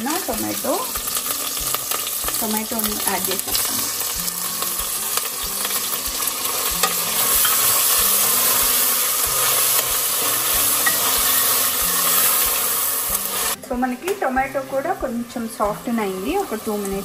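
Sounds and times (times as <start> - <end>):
tomato sizzling in hot oil: 0.0 - 17.0.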